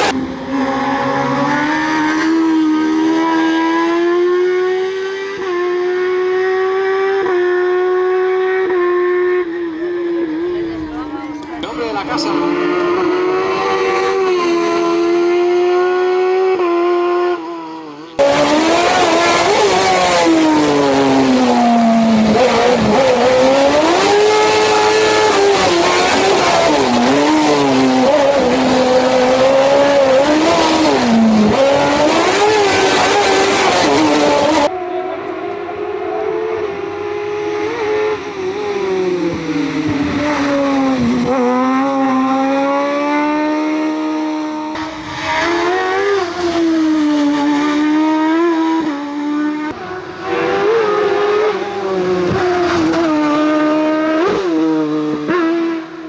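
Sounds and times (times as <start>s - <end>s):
race car engines at full throttle: 0.0s - 56.0s.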